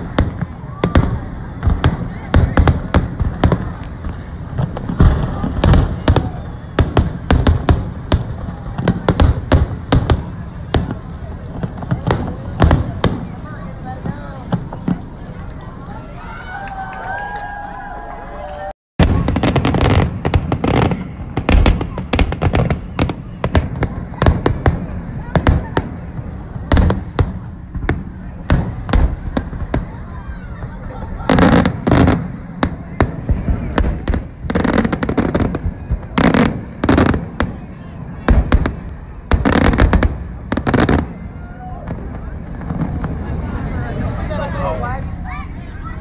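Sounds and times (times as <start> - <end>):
fireworks crackling: 0.0 - 46.0.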